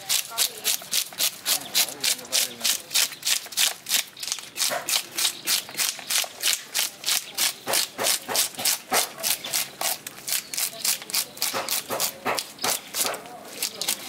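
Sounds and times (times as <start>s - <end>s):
fish scaler scraping scales: 0.0s - 14.0s.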